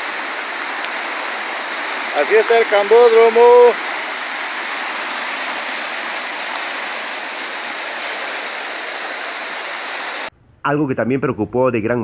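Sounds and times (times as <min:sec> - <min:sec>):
heavy rain on water: 0:00.0 - 0:10.3.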